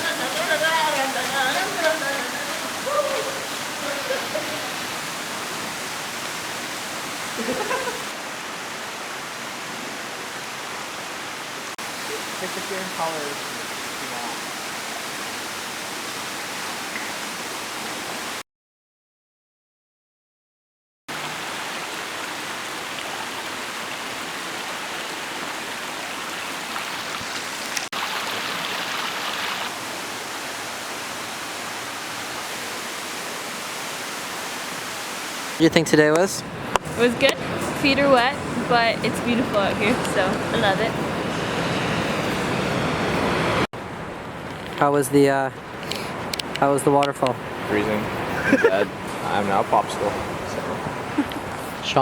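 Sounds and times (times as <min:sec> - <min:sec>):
waterfall rushing: 0:00.0 - 0:18.4, 0:21.1 - 0:44.2, 0:45.1 - 0:52.0.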